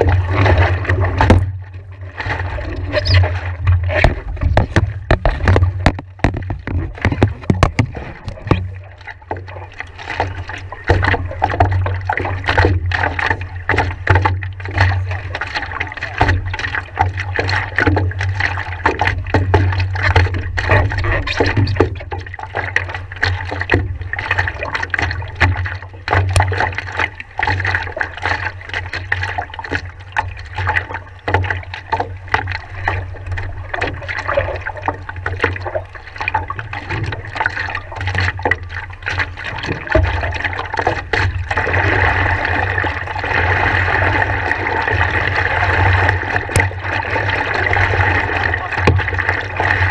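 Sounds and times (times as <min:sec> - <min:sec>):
small irregular splashes: 0:00.0 - 0:49.9
water lapping against paddleboard: 0:00.0 - 0:49.9.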